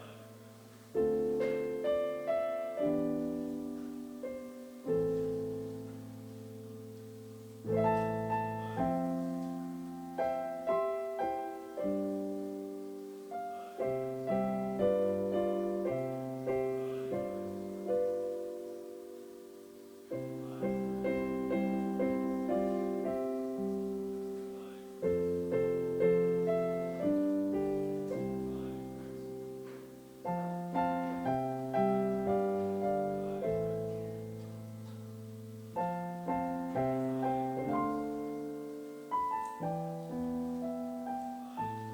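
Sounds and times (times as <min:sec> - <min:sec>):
slow solo piano chords: 0:00.0 - 0:41.9.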